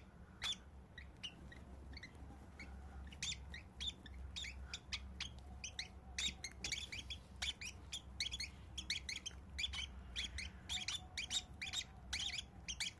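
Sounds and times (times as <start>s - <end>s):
baby birds chirping: 0.0s - 12.9s.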